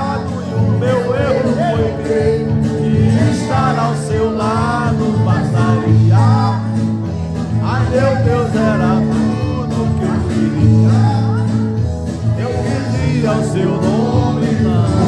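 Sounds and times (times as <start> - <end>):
guitar accompaniment: 0.0 - 15.0
man singing into microphone: 0.0 - 15.0.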